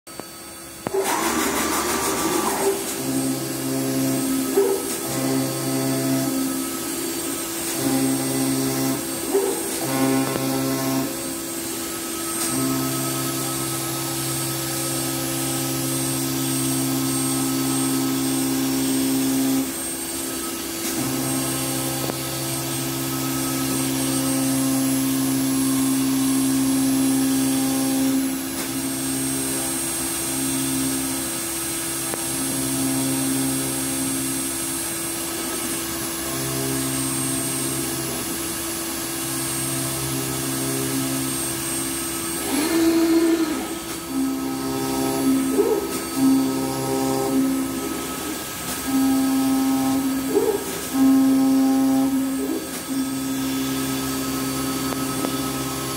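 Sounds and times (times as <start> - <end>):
router spindle whine: 0.1 - 55.9.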